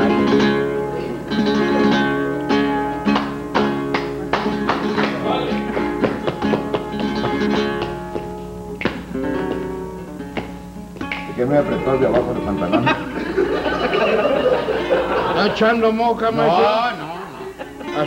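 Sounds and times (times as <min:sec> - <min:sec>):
flamenco guitar strumming: 0:00.0 - 0:18.0.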